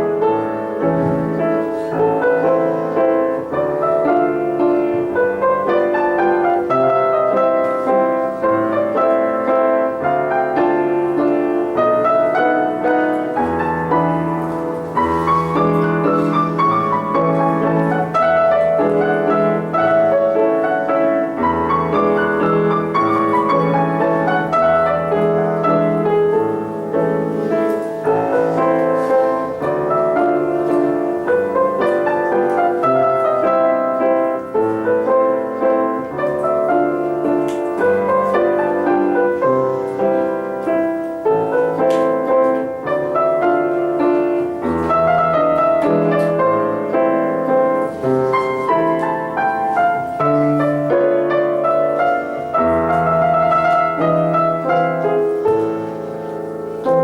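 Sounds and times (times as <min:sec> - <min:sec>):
solo classical piano: 0:00.0 - 0:57.0.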